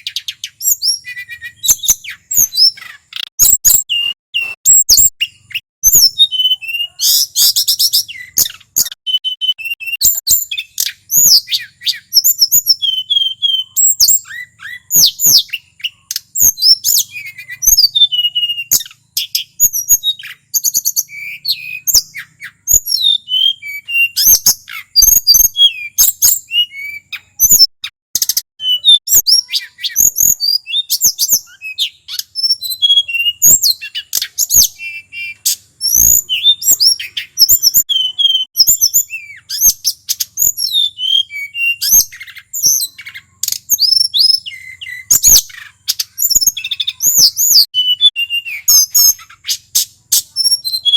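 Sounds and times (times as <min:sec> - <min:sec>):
bird singing trills: 0:00.0 - 0:50.9.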